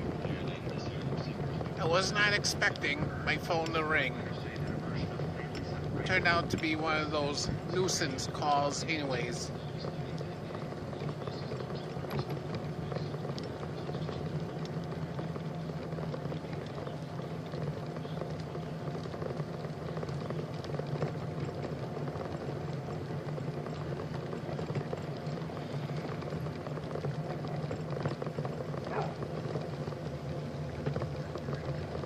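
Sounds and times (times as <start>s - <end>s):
bike tyres rolling: 0.0s - 32.0s
low steady hum: 0.0s - 32.0s.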